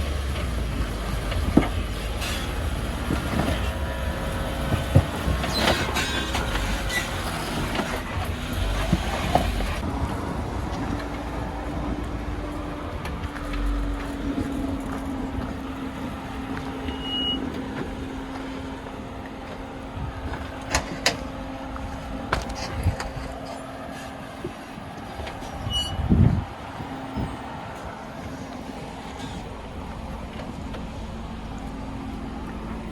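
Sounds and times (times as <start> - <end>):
off-road vehicle engine drone: 0.0 - 32.9.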